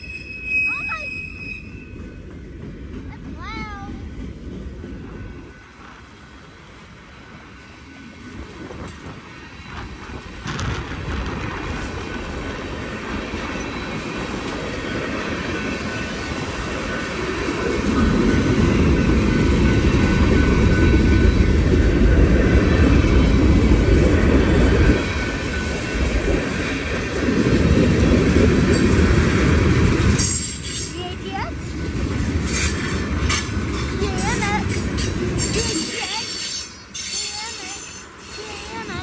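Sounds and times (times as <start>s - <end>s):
freight train wheels clattering: 0.0s - 39.0s.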